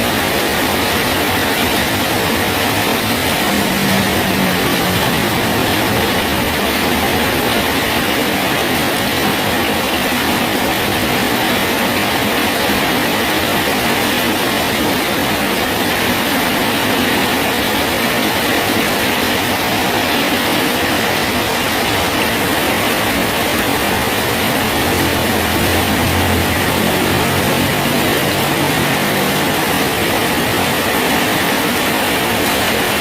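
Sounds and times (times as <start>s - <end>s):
rain falling on a bridge: 0.0s - 33.0s.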